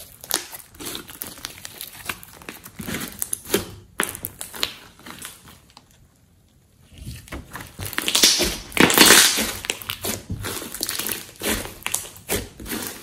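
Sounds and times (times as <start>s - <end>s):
slime crackling and squelching: 0.0s - 6.1s, 6.8s - 13.0s.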